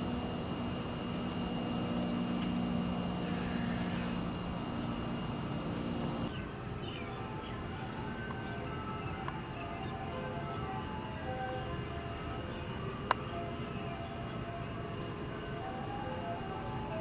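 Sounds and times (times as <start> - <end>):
low engine drone: 0.0 - 17.0
thin high steady tone: 0.0 - 17.0.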